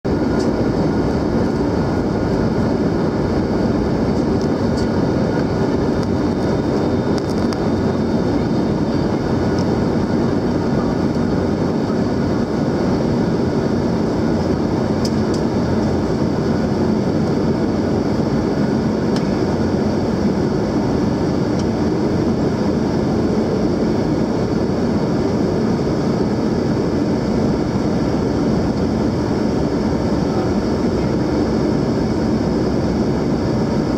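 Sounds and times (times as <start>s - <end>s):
airplane cabin engine rush: 0.0s - 33.9s
faint steady whine: 0.1s - 33.9s.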